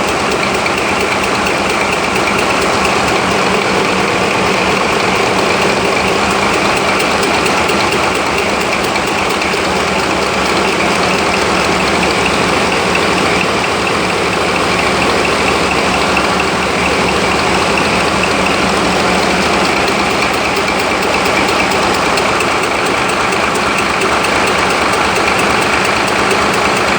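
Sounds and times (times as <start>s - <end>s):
ship engine running: 0.0s - 26.9s.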